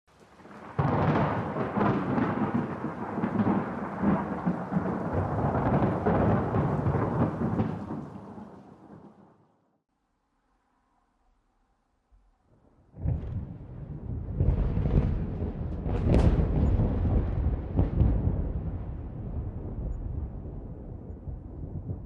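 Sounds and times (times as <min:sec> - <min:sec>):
thunder crack and rumble: 0:00.2 - 0:09.4, 0:12.8 - 0:22.0.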